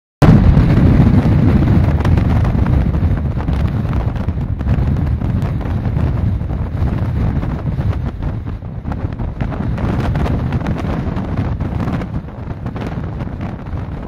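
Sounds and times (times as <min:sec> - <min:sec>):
wind buffeting microphone: 0:00.2 - 0:14.0.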